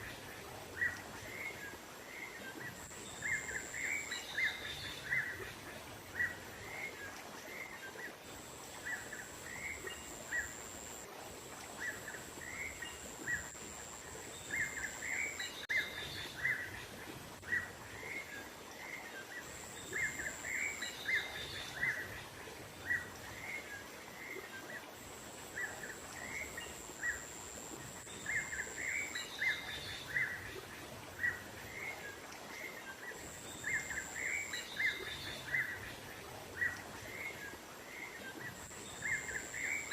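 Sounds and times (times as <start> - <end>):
outdoor ambience hiss: 0.0 - 39.9.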